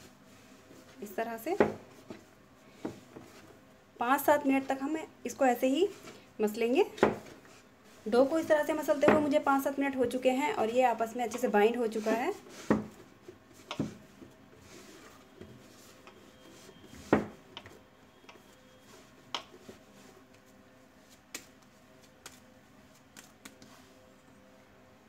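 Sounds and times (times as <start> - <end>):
dough kneaded by hand: 0.0 - 24.3.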